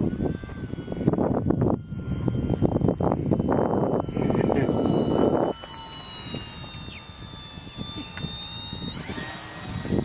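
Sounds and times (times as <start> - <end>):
model airplane motor whining: 0.0 - 10.0.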